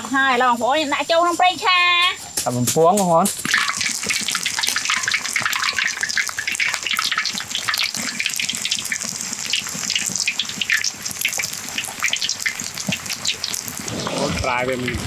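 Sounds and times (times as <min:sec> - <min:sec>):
hot oil bubbling and crackling: 0:00.0 - 0:15.0.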